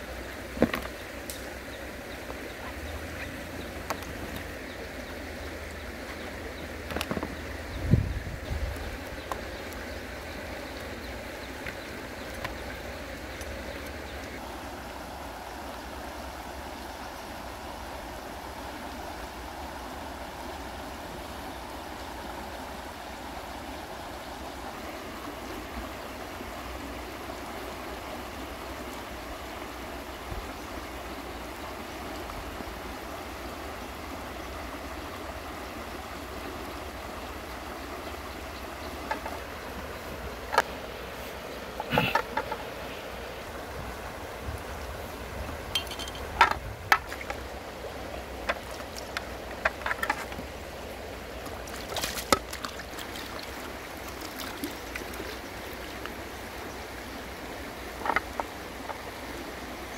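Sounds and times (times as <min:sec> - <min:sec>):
river flowing over rocks: 0:00.0 - 0:59.9.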